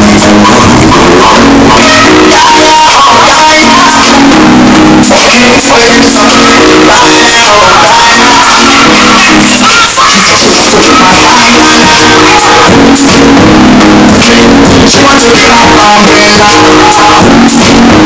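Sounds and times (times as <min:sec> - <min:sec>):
loud guitar band music: 0:00.0 - 0:18.0.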